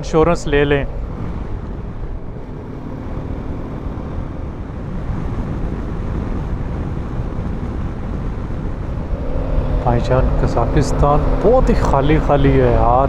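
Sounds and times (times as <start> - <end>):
motorcycle engine running: 0.0 - 13.0
road noise: 0.0 - 13.0
wind rush: 0.0 - 13.0.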